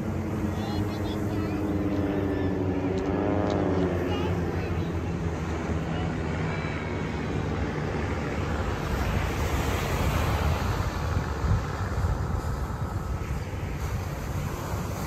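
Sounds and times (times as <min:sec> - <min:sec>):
distant propeller planes droning: 0:00.0 - 0:15.0
wind on microphone: 0:00.0 - 0:15.0.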